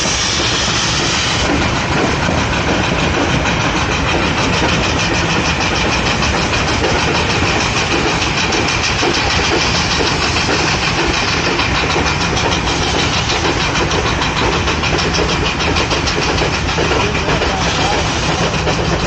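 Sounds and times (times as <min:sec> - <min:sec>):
steam engine exhaust beating: 0:00.0 - 0:19.0.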